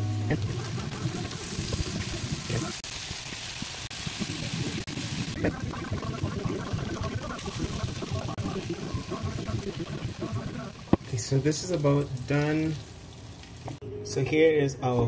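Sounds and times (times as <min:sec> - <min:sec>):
chicken sizzling on grill: 0:00.0 - 0:13.8.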